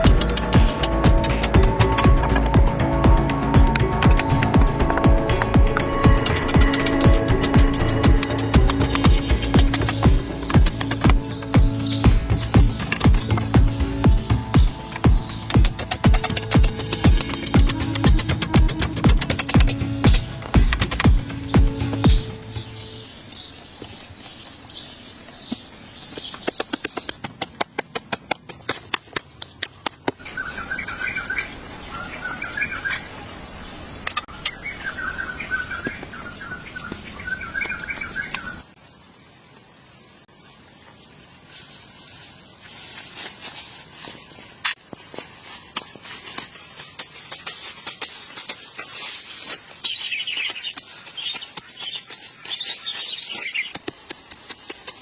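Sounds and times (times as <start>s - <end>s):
birds chirping: 0.0s - 38.8s, 48.2s - 53.8s.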